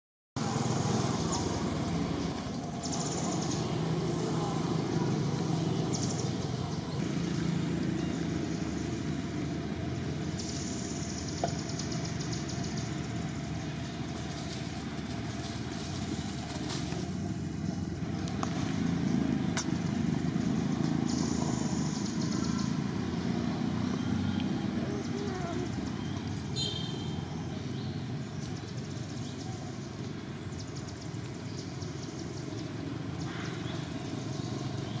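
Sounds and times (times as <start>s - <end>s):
traffic engine rumble: 0.4s - 35.0s.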